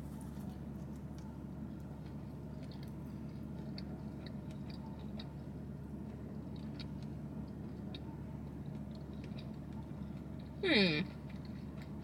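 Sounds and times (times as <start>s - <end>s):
steady low hum: 0.0s - 12.0s
chewing with wet clicks: 0.5s - 12.0s.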